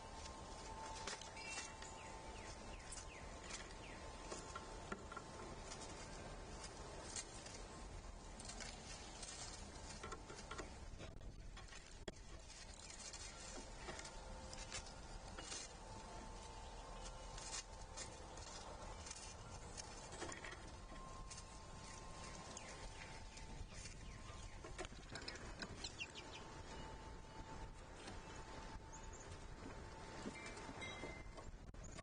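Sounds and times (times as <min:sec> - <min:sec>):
animals pecking at seed: 0:00.0 - 0:32.0
faint steady hum: 0:00.0 - 0:32.0.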